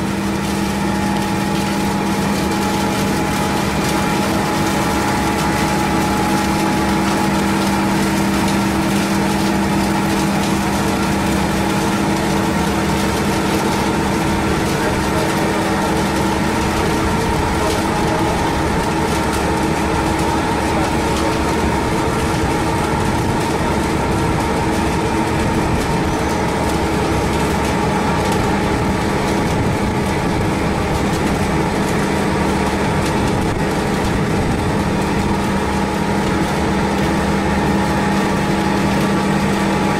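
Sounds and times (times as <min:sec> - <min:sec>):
industrial machinery hum: 0:00.0 - 0:39.9.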